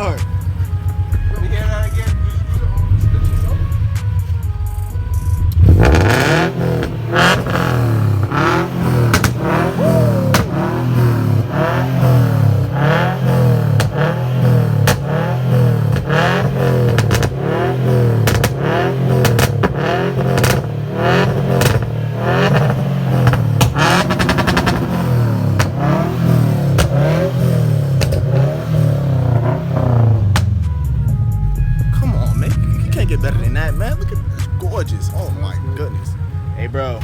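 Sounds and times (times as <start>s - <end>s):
car engine revving: 0.0s - 37.0s
exhaust pops crackling: 0.0s - 37.0s.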